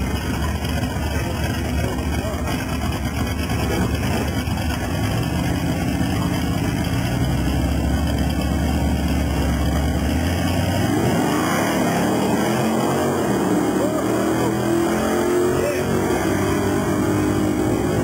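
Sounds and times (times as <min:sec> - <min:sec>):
loud engine rumbling and revving: 0:00.0 - 0:18.0.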